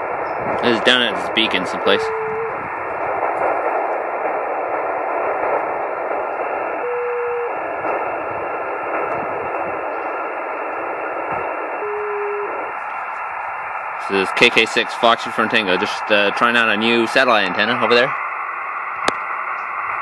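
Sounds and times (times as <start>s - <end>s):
radio static hiss: 0.0s - 20.0s
short steady radio tone: 0.1s - 20.0s.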